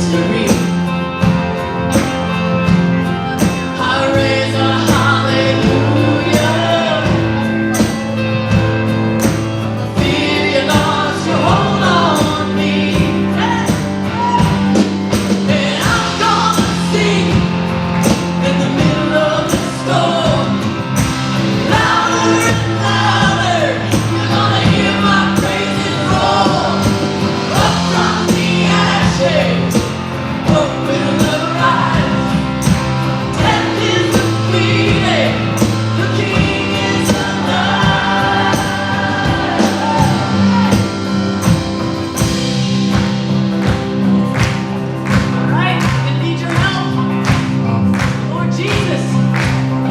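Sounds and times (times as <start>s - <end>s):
held bass notes: 0.0s - 49.9s
people singing: 0.0s - 49.9s
steady drum beat: 0.0s - 49.9s
worship band playing: 0.0s - 49.9s.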